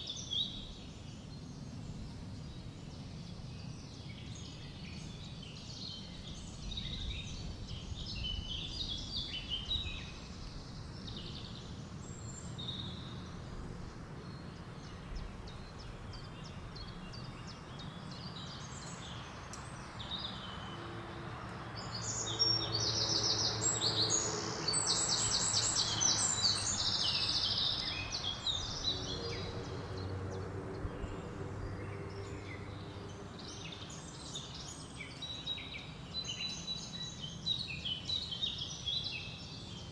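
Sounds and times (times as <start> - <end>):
bird song of rapid notes: 0.0 - 39.9
songbirds chirping and singing: 0.0 - 39.9.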